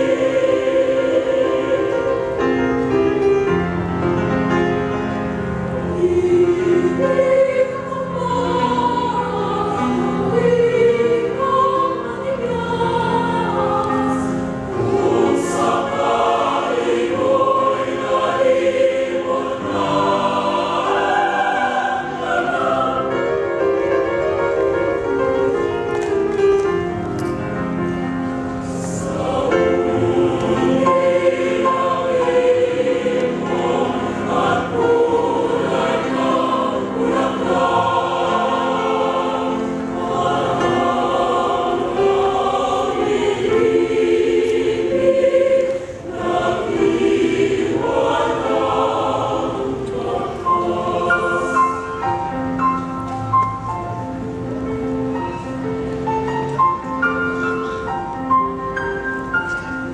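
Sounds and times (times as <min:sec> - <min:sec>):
mixed choir singing: 0:00.0 - 0:25.6, 0:28.5 - 0:54.3.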